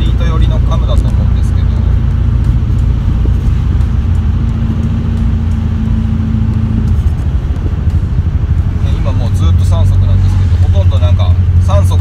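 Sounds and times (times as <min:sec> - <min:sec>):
car engine rumble from inside cabin: 0:00.0 - 0:12.0.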